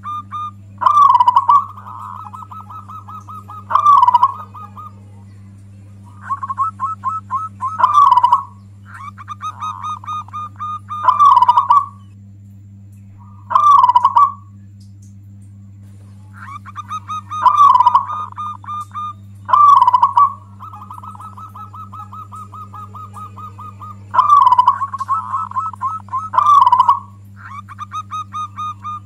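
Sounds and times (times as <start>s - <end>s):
dove cooing: 0.0s - 12.1s, 13.2s - 14.6s, 16.0s - 29.0s
steady low hum: 0.0s - 29.0s.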